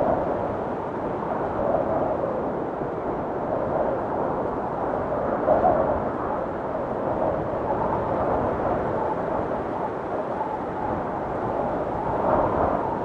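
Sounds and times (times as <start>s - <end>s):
blizzard wind blowing: 0.0s - 13.0s
faint wavering wind whistles: 0.0s - 13.0s.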